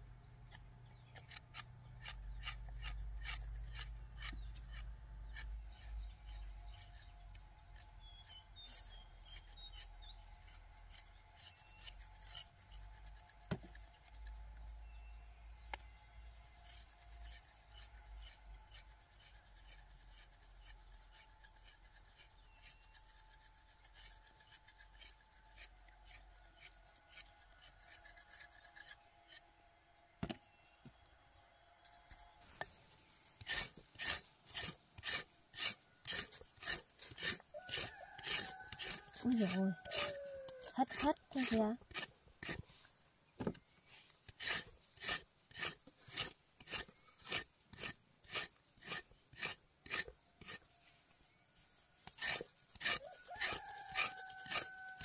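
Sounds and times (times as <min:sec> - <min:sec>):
rasping scraping strokes: 0:00.4 - 0:14.6, 0:15.7 - 0:29.5, 0:31.8 - 0:55.0.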